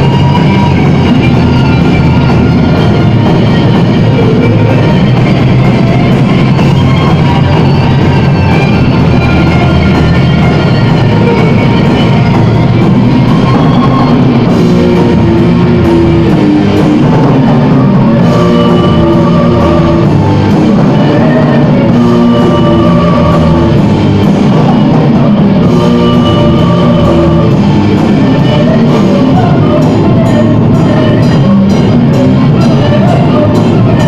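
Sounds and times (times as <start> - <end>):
metal band playing: 0.0 - 34.0.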